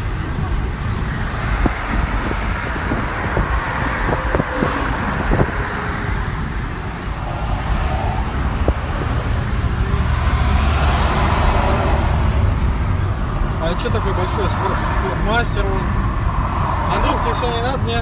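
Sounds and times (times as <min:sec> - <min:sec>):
tyre and engine rumble: 0:00.0 - 0:18.0.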